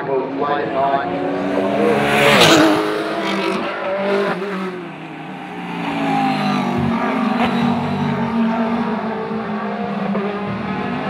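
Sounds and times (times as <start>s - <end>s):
race cars passing: 0.0s - 11.0s.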